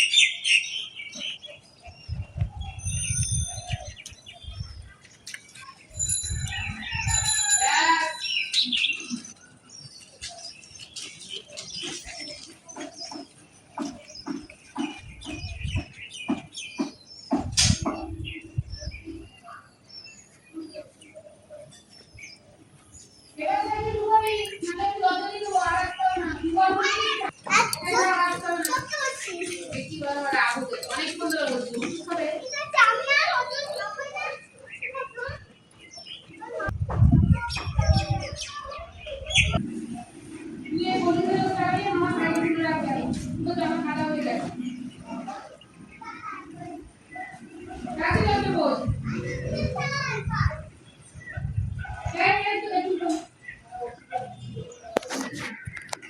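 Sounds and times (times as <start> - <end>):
birds chirping: 0.0 - 56.0
people's voices: 1.1 - 56.0.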